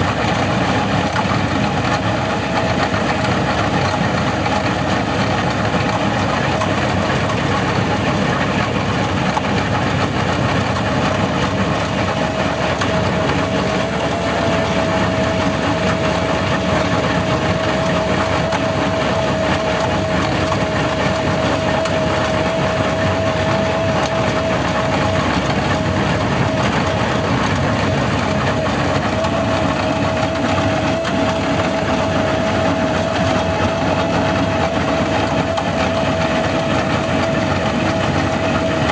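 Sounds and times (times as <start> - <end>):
hydraulic planer whine: 0.0 - 38.9
loader engine running: 0.0 - 38.9.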